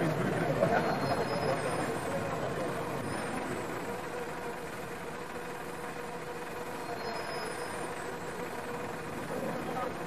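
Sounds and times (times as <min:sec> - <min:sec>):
machine running: 0:00.0 - 0:10.0.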